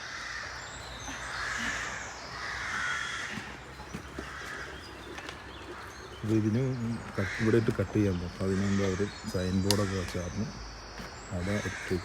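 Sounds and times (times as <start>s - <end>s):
bird hoarse calls: 0.0s - 12.0s.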